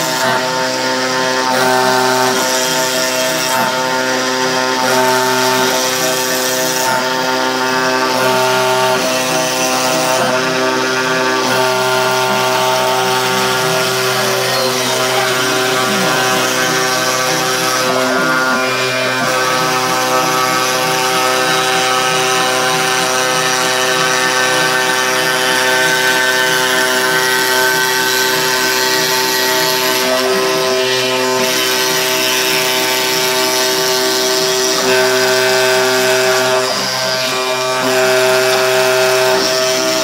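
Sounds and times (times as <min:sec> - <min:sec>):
milling machine whine: 0:00.0 - 0:40.0.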